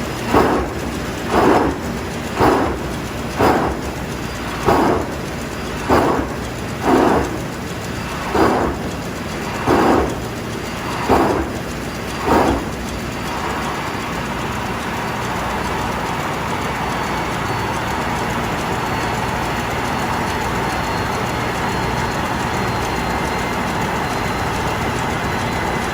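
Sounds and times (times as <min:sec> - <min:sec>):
ship engine running: 0:00.0 - 0:25.9.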